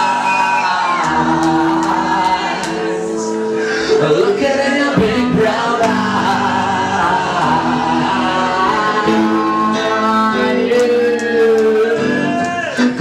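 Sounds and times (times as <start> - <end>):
crowd singing along: 0.0 - 12.3
live band with singing: 0.0 - 13.0.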